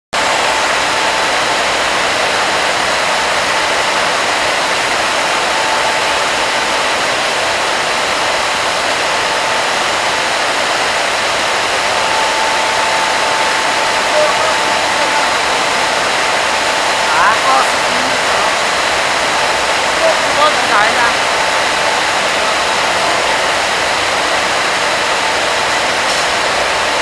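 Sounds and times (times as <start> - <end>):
circular looms running: 0.2 - 27.0
faint steady machine whine: 0.2 - 27.0.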